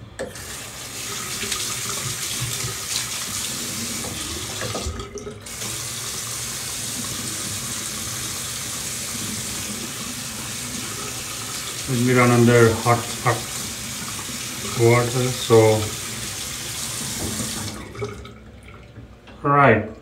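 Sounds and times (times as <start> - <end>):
water running from a tap: 0.3 - 19.2.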